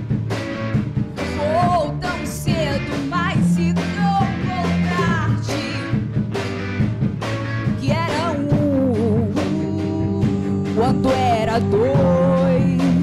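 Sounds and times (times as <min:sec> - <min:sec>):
bending lead guitar line: 0:00.0 - 0:13.0
rock band playing live: 0:00.0 - 0:13.0.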